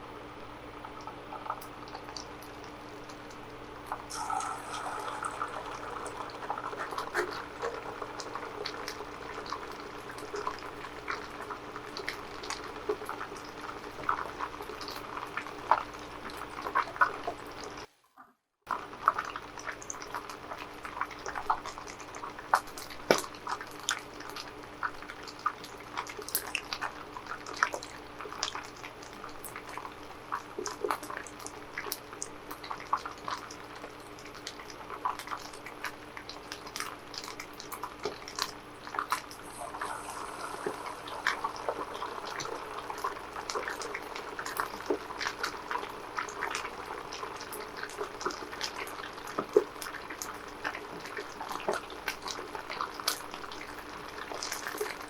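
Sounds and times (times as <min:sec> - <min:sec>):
food frying in hot oil: 0:00.0 - 0:17.9, 0:18.7 - 0:55.0.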